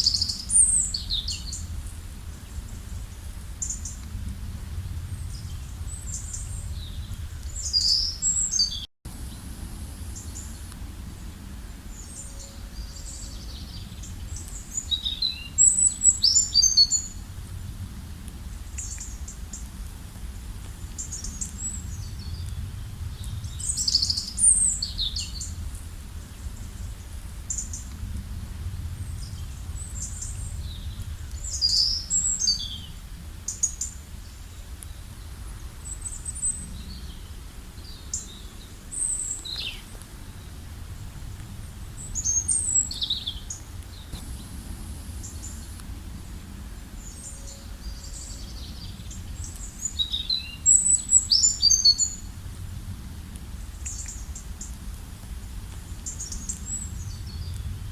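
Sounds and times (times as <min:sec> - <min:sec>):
steady low rumble: 0:00.0 - 0:51.2, 0:52.1 - 0:57.9.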